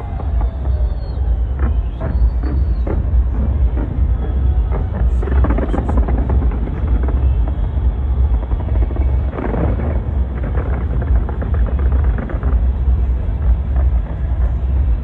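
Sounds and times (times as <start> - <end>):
deep continuous rumble: 0.0 - 15.0
fireworks bangs and crackles: 0.0 - 15.0.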